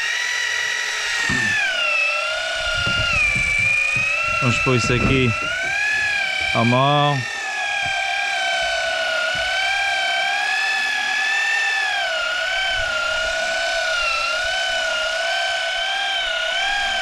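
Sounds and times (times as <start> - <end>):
motor whining: 0.0 - 17.0.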